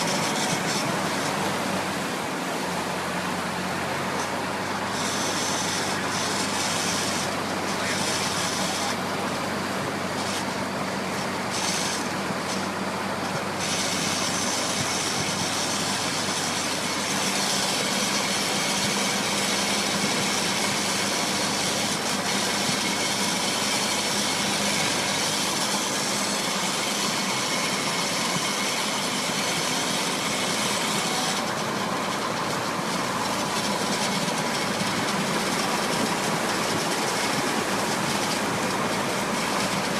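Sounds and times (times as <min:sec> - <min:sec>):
constant rushing noise: 0:00.0 - 0:39.9
truck engine drone: 0:00.0 - 0:39.9.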